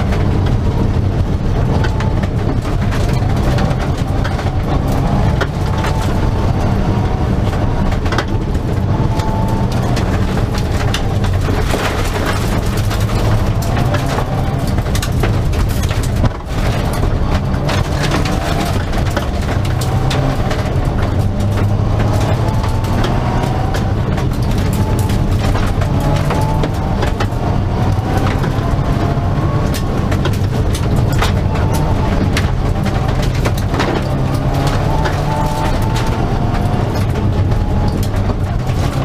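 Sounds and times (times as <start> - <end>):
gravel rattling against car: 0.0 - 39.0
rally car engine running hard: 0.0 - 39.0.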